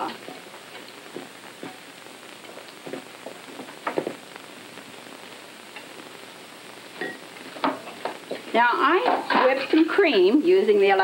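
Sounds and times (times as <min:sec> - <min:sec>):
film soundtrack hiss: 0:00.0 - 0:11.0.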